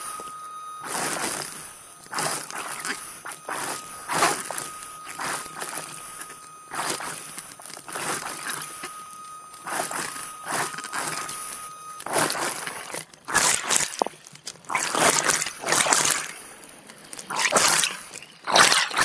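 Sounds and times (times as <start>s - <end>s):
underwater scooter whine: 0.0s - 19.0s.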